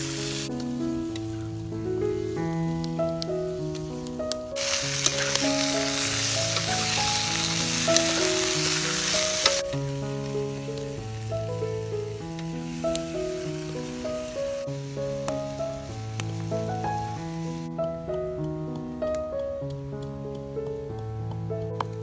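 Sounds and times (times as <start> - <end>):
food sizzling in oil: 0.0 - 17.7.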